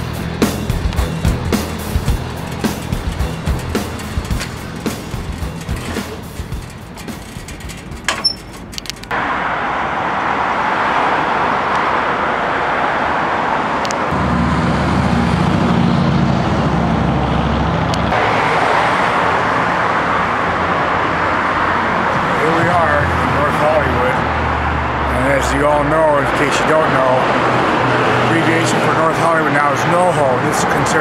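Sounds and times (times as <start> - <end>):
heavy vehicle engine rumble: 0.0 - 31.0
street traffic passing: 0.0 - 31.0.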